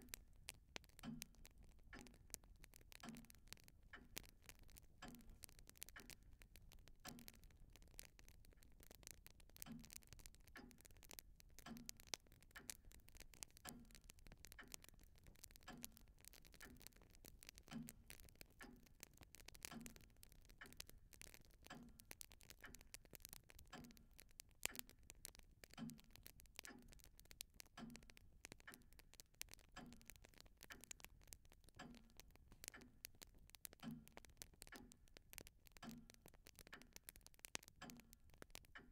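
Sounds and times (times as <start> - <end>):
faint crackles: 0.0 - 38.9
faint even ticking: 0.0 - 38.9.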